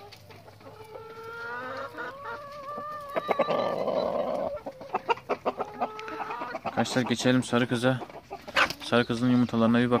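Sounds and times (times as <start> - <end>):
hens clucking: 0.0 - 10.0.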